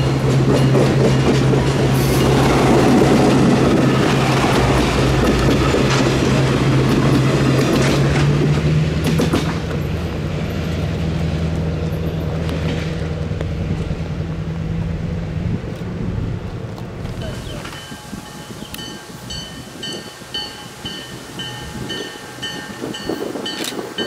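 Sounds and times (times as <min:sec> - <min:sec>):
wheels clicking over rail joints: 0:00.0 - 0:14.2, 0:15.7 - 0:24.0
locomotive engine drone: 0:00.0 - 0:24.0.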